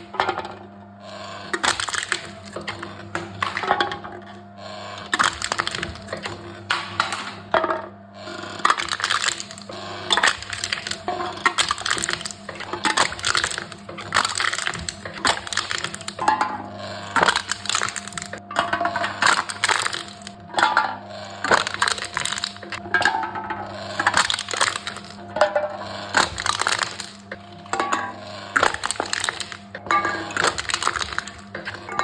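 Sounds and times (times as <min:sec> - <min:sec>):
cans being crushed in machine: 0:01.4 - 0:32.0.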